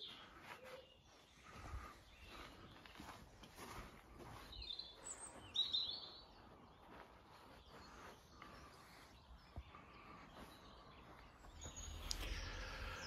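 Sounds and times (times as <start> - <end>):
bird chirps: 0.0 - 13.0
faint outdoor background: 0.0 - 13.0.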